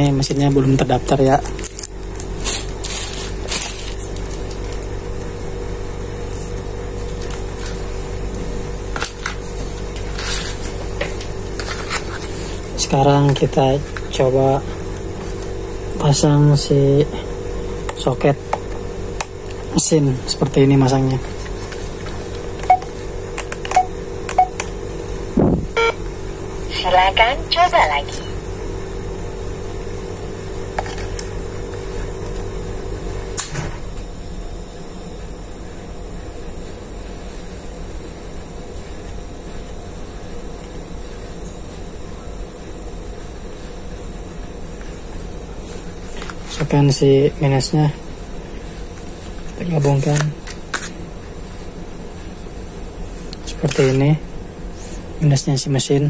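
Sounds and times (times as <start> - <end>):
background hum: 0.0 - 56.0.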